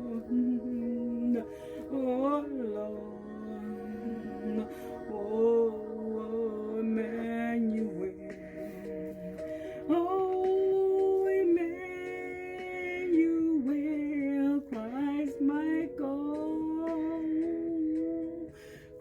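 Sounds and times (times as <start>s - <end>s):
person singing wordless melody: 0.0s - 19.0s
steady held background tones: 0.0s - 19.0s.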